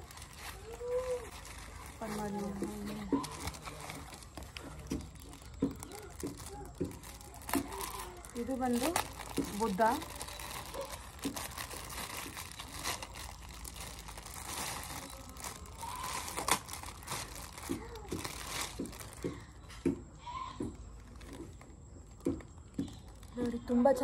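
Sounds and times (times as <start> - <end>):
plastic bag crinkling: 0.0 - 19.5, 20.9 - 24.0.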